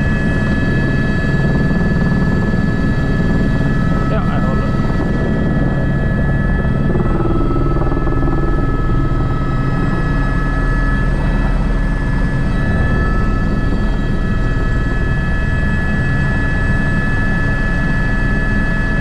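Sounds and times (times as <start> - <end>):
helicopter rotor and turbine drone: 0.0 - 19.0
high whine: 0.0 - 19.0.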